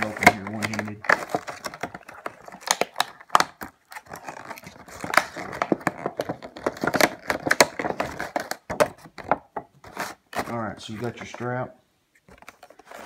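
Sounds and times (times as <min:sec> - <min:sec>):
plastic package crinkling: 0:00.0 - 0:11.5.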